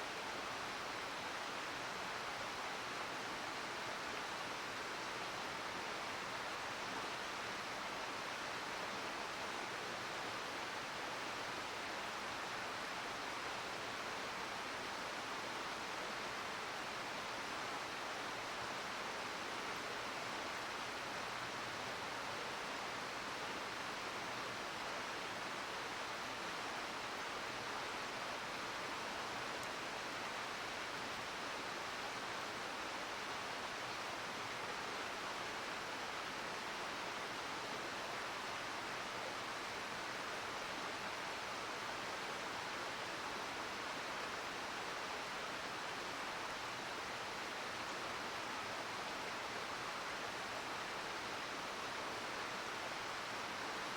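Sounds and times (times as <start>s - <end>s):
stream flowing over rocks: 0.1s - 53.9s.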